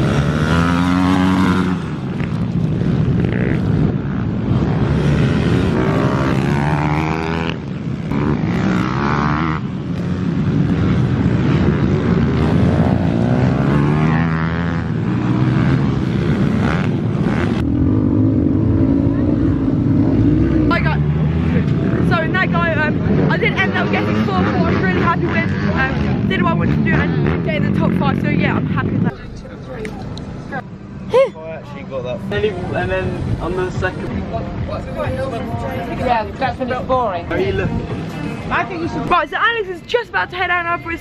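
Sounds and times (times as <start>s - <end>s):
pit bike engines revving: 0.0s - 41.0s.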